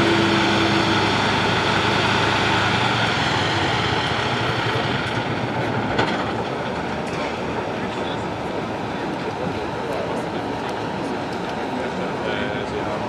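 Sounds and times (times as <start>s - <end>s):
large engine idling: 0.0s - 13.0s.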